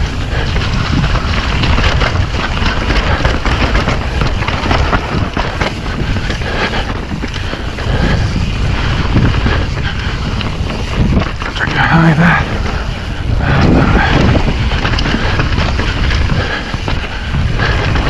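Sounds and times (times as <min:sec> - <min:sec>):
bike rattling: 0:00.0 - 0:18.0
bike tyres rolling on dirt: 0:00.0 - 0:18.0
wind noise on microphone: 0:00.0 - 0:18.0.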